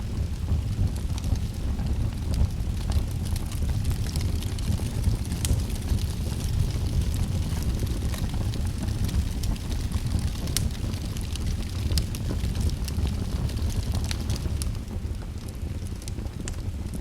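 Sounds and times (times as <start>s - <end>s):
fire crackling and popping: 0.0s - 17.0s
fire rumbling: 0.0s - 17.0s.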